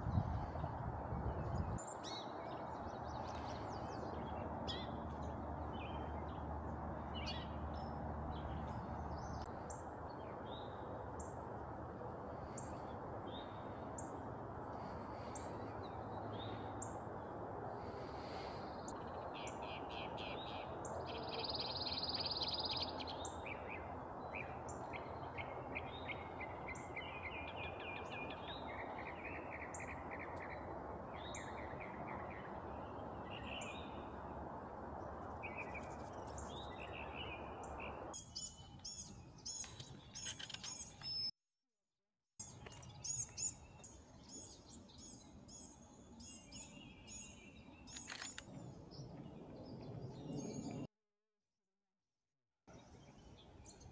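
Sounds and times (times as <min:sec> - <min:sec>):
songbirds singing and chirping: 0:00.0 - 0:11.4, 0:17.8 - 0:34.4, 0:35.0 - 0:41.3, 0:42.4 - 0:50.9, 0:52.7 - 0:53.9.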